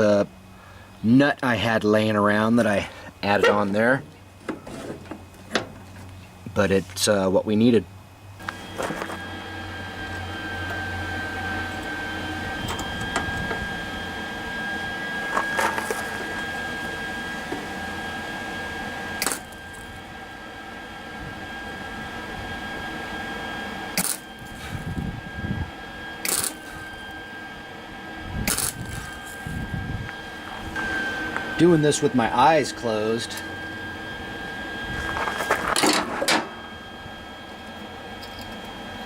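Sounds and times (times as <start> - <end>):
steady high whine: 0.0 - 39.0.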